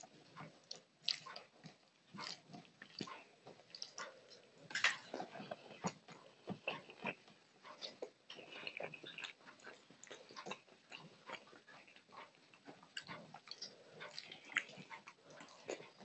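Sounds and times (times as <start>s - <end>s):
chewing and mouth clicks: 0.0s - 16.0s.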